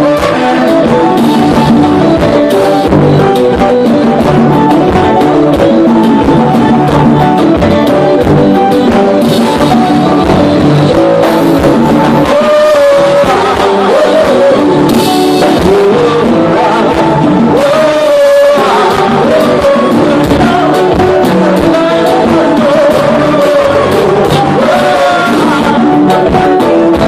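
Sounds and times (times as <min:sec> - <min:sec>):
conga drums: 0:00.0 - 0:27.0
drum kit: 0:00.0 - 0:27.0
guitar: 0:00.0 - 0:27.0.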